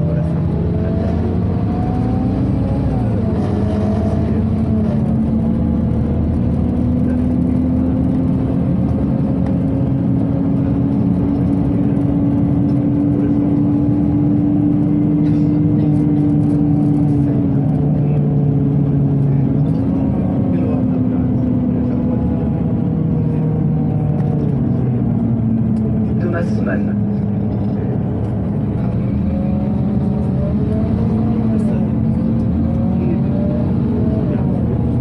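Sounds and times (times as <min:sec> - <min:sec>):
bus engine pulling: 0:00.0 - 0:35.0
constant running hum: 0:00.0 - 0:35.0.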